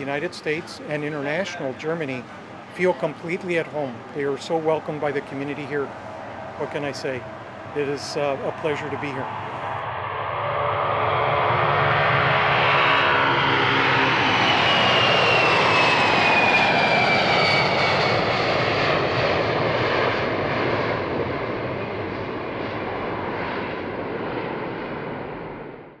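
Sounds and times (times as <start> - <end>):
jet engine roar: 0.0 - 26.0
jet engine whine falling: 0.0 - 26.0.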